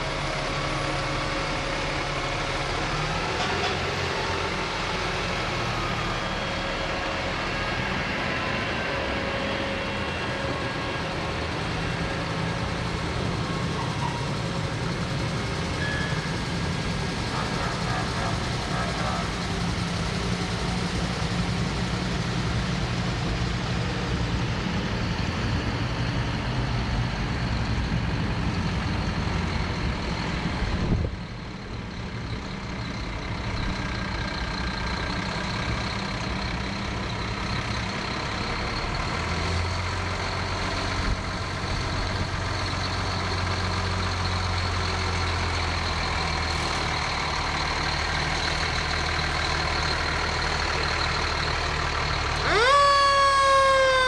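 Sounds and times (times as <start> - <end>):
deeper engine drone: 0.0 - 54.0
diesel engines droning: 0.0 - 54.0.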